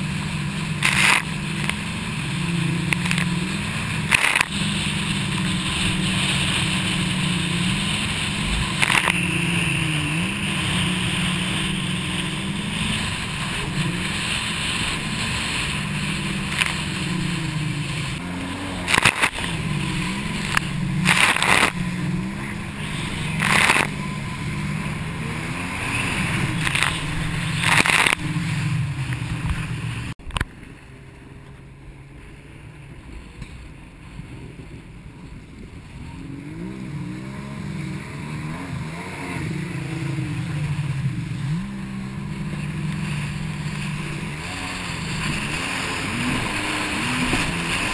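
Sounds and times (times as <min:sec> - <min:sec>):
water spray crashing: 0:00.0 - 0:30.2, 0:36.6 - 0:47.9
jet ski engine running: 0:00.0 - 0:47.9.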